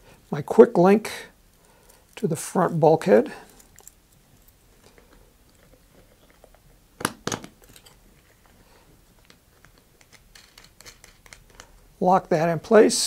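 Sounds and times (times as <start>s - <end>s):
small handling sounds: 1.4s - 12.0s.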